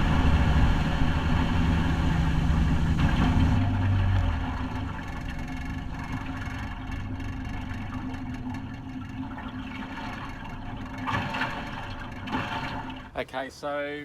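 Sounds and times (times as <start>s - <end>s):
outboard motors running: 0.0s - 13.8s.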